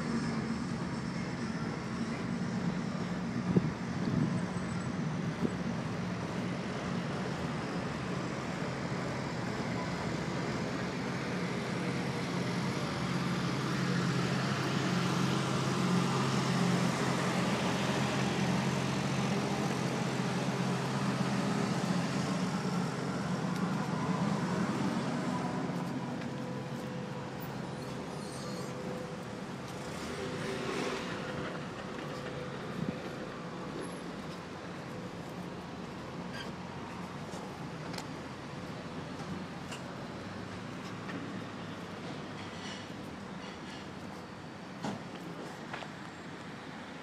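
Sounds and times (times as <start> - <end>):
traffic engines humming: 0.0 - 47.0.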